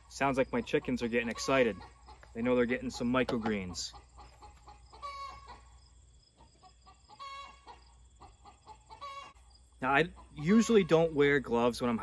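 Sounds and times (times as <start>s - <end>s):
chickens calling: 0.0s - 12.0s.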